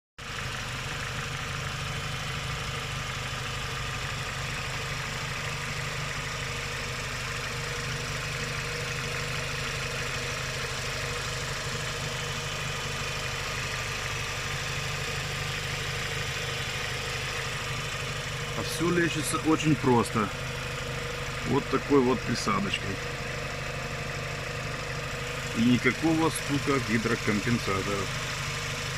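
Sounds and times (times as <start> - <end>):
car engine idling: 0.2 - 28.9.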